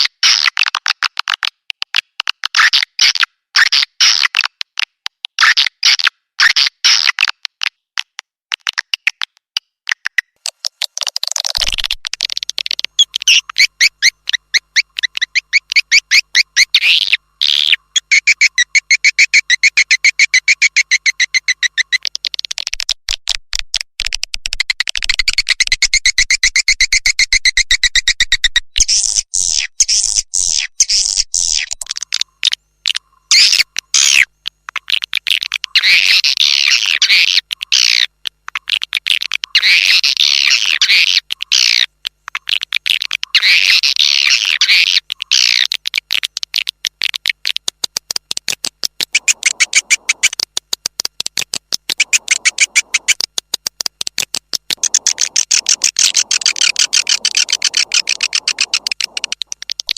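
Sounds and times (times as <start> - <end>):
high bird chirps and clicks: 0.0 - 59.9.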